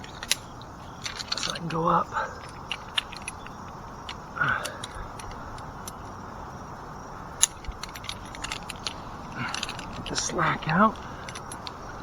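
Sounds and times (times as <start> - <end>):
metal climbing hardware clinking: 0.0 - 12.0
wind noise: 0.0 - 12.0.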